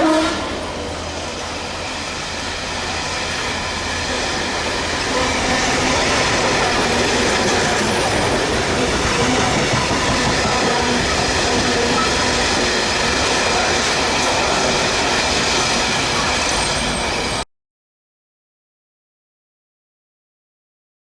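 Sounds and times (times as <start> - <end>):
train passing at speed: 0.0 - 17.4.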